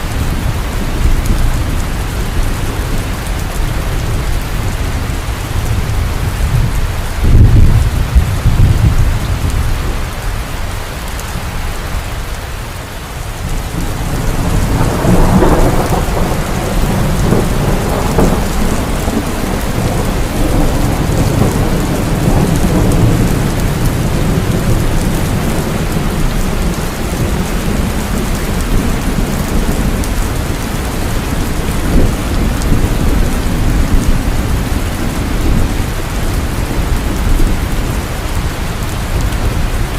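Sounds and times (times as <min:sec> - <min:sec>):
rolling thunder: 0:00.0 - 0:10.2, 0:13.4 - 0:39.9
heavy rain falling: 0:00.0 - 0:39.9.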